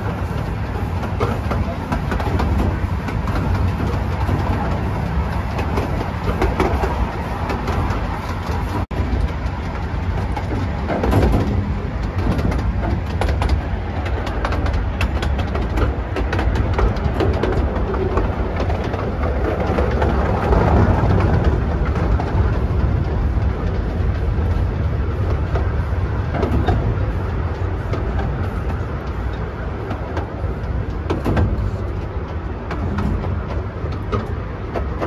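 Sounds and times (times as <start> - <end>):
train wheels rumbling on track: 0.0 - 35.0.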